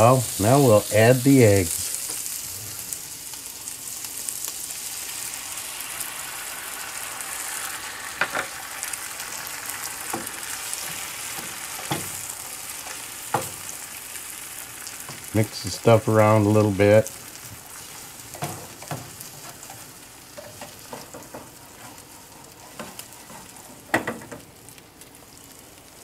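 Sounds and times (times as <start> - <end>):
eggs sizzling in a pan: 0.0 - 26.0.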